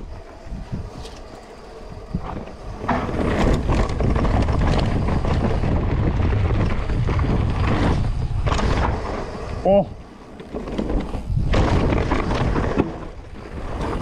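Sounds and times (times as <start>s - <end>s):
wind on microphone: 0.0s - 10.0s, 10.7s - 14.0s
bike clicks and rattles: 0.0s - 14.0s
bike tyres rumbling on dirt: 0.0s - 14.0s.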